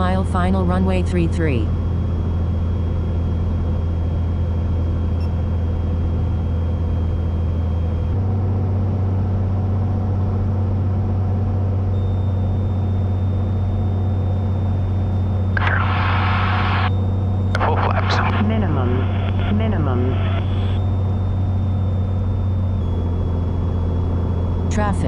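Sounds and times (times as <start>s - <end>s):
aircraft engine and propeller droning: 0.0s - 25.0s.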